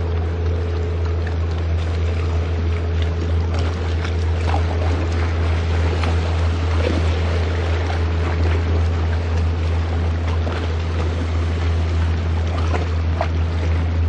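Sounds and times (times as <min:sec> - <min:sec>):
motorboat engine humming: 0:00.0 - 0:14.0
water splashing and waves: 0:00.0 - 0:14.0.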